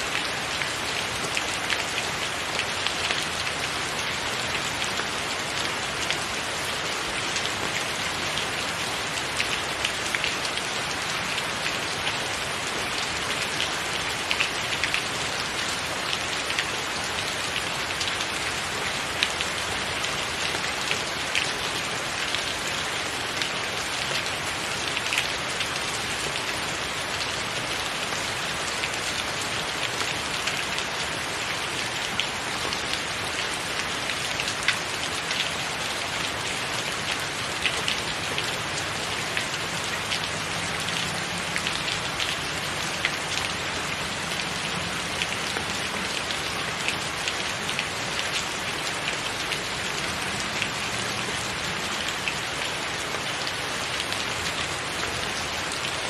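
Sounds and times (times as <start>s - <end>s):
rain on tiled roof: 0.0s - 56.0s.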